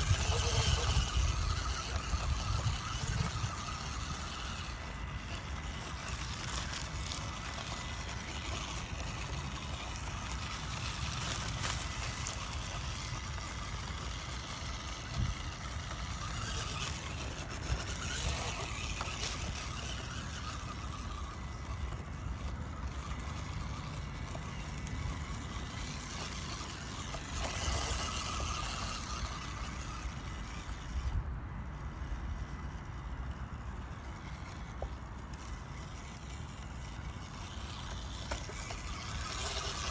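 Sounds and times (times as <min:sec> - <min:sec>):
toy truck electric motor whining: 0:00.0 - 0:39.9.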